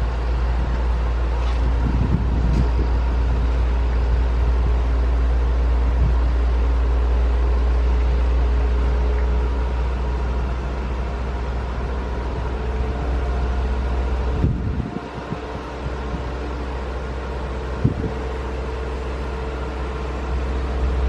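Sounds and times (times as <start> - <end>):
large diesel engine rumbling: 0.0 - 21.0.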